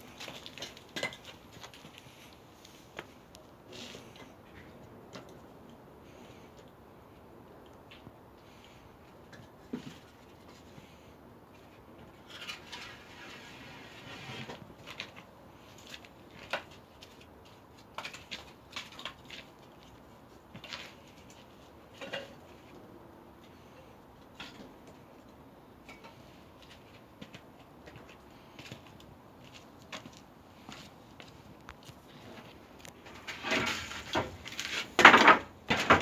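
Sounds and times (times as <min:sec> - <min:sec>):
low steady background noise: 0:00.0 - 0:36.0.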